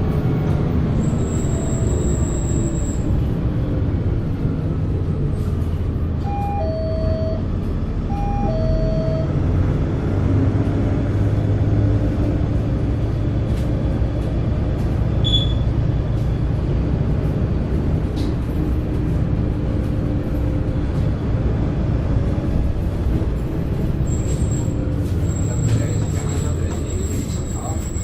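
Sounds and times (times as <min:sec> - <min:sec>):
diesel bus engine running: 0:00.0 - 0:28.0.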